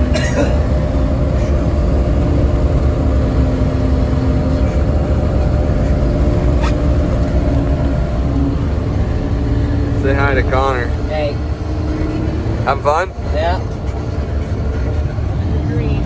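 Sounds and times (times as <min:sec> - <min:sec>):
machine engine rumbling: 0:00.0 - 0:16.0.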